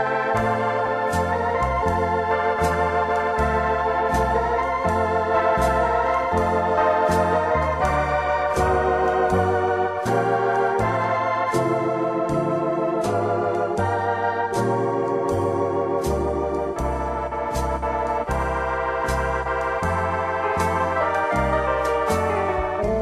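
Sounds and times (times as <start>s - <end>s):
bass line: 0.0s - 23.0s
organ chords: 0.0s - 23.0s.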